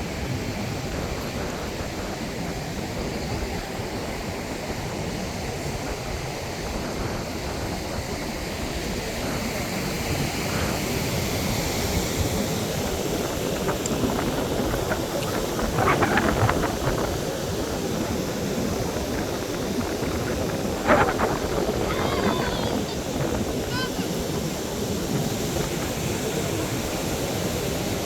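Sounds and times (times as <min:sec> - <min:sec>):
surf rushing on beach: 0:00.0 - 0:28.0
wind buffeting microphone: 0:00.0 - 0:28.0.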